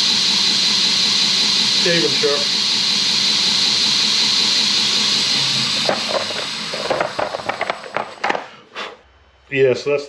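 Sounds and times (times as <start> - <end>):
belt grinder hissing: 0.0 - 8.1.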